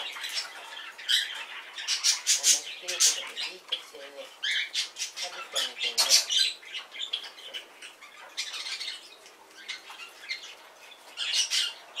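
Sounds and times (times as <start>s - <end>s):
parrots squawking and chirping: 0.0s - 12.0s.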